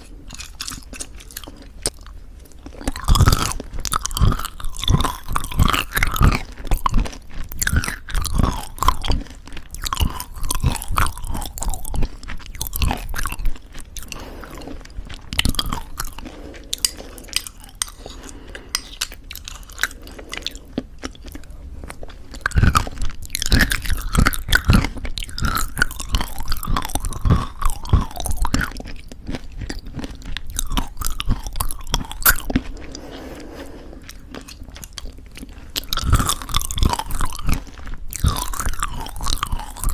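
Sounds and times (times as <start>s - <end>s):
chewing crunchy granola: 0.0s - 39.9s.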